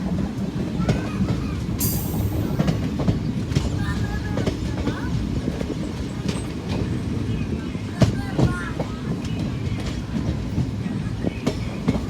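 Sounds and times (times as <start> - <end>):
train rumbling: 0.0 - 12.0
train wheels clicking on rails: 0.0 - 12.0.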